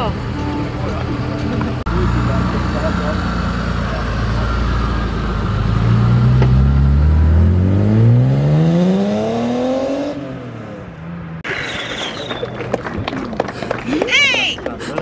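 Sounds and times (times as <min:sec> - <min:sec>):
car engine revving and pulling away: 0:00.0 - 0:12.2.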